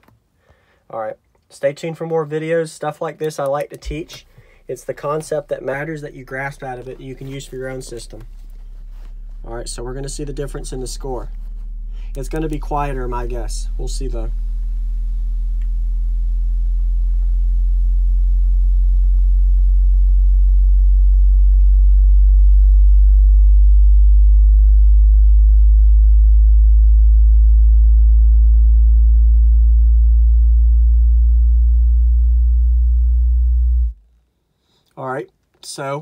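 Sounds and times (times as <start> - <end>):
low bass sine sweep: 3.8 - 34.2.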